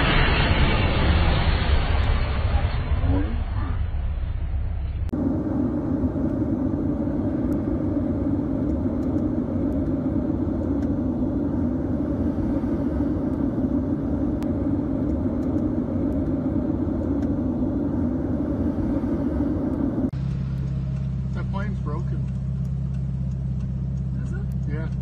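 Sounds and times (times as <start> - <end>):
airplane cabin engine drone: 0.0 - 25.0.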